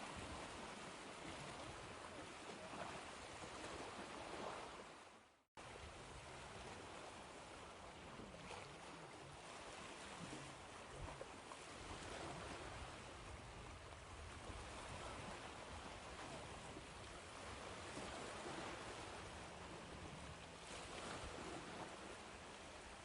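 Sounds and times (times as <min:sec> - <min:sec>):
ocean waves breaking on shore: 0:00.0 - 0:23.0.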